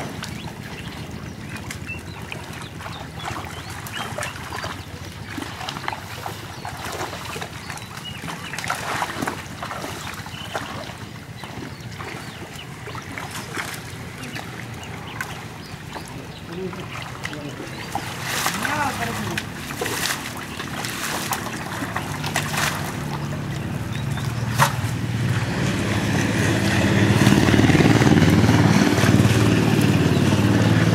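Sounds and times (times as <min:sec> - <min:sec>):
pond water splashing: 0:00.0 - 0:30.9.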